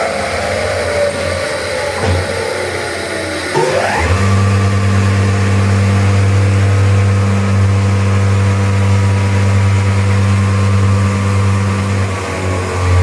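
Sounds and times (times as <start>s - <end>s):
woodworking machine humming: 0.2s - 13.0s.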